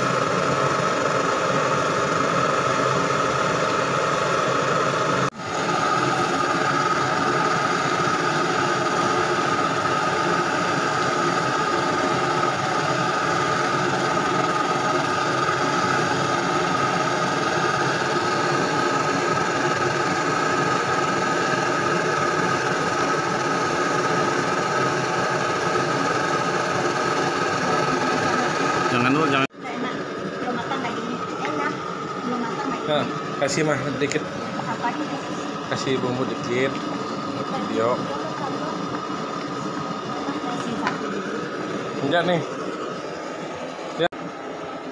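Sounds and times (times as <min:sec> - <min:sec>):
gas burner rushing: 0:00.0 - 0:44.9.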